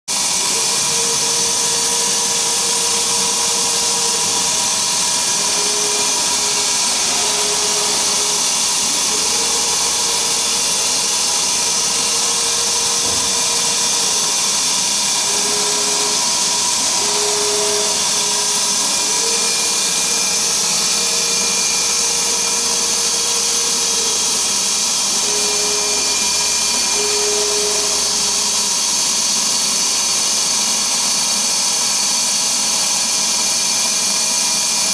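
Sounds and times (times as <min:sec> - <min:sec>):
machine hissing: 0:00.1 - 0:30.6
motor hum: 0:00.2 - 0:29.3.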